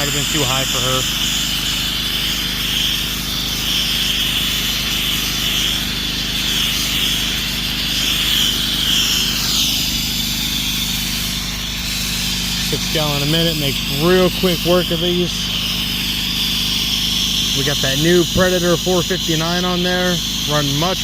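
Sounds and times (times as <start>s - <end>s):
gasoline engine running: 0.0s - 21.0s
water spray hissing: 0.0s - 21.0s.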